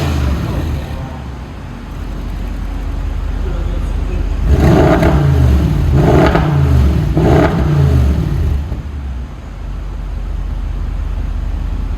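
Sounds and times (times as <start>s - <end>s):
car engine blip and idle: 0.0s - 11.9s.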